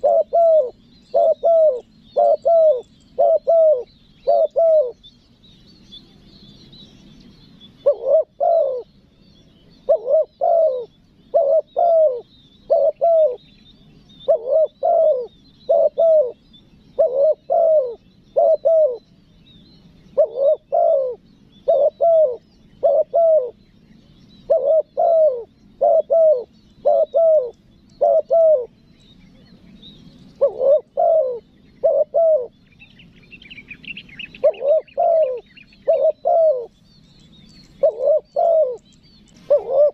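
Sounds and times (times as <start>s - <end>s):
dove cooing: 0.0s - 5.0s, 7.7s - 19.2s, 20.1s - 23.7s, 24.4s - 29.6s, 30.3s - 36.8s, 37.7s - 39.9s
bird twittering: 0.0s - 39.9s
small birds chirping: 0.0s - 39.9s.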